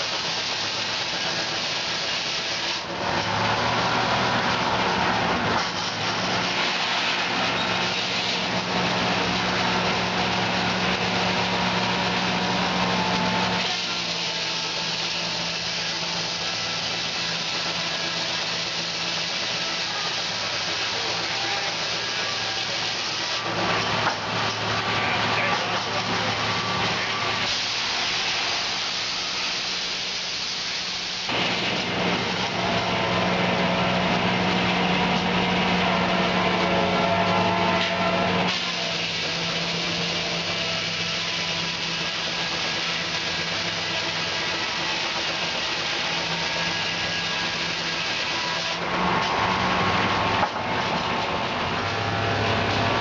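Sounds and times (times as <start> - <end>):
sawmill humming: 0.0 - 53.0.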